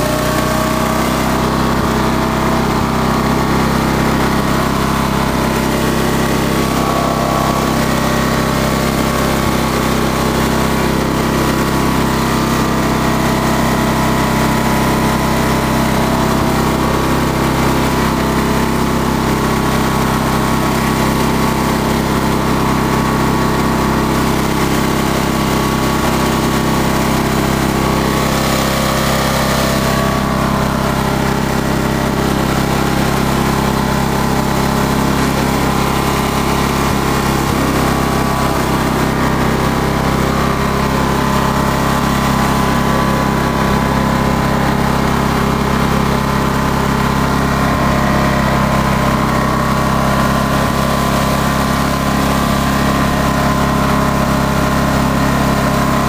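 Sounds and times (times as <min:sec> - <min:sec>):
ride-on mower engine running: 0:00.0 - 0:56.0.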